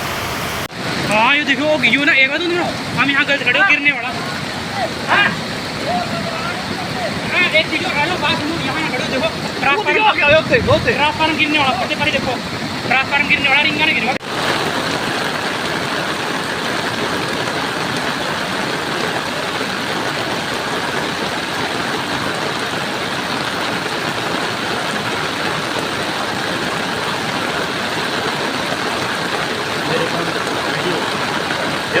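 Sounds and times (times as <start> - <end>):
floodwater rushing torrent: 0.0 - 32.0.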